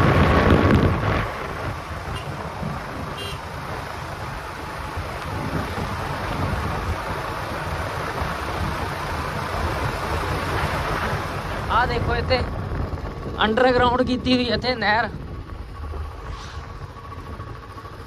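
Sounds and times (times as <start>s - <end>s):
rushing wind: 0.0s - 18.0s
vehicle road noise: 0.0s - 18.0s.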